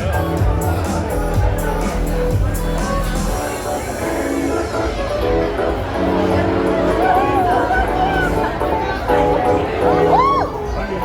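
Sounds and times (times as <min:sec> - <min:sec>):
live band amplified music: 0:00.0 - 0:11.0.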